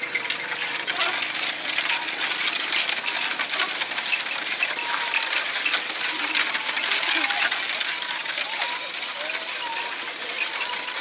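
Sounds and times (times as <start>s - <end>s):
neck bells jingling: 0.0s - 11.0s
wooden cart rattling on dirt road: 0.0s - 11.0s.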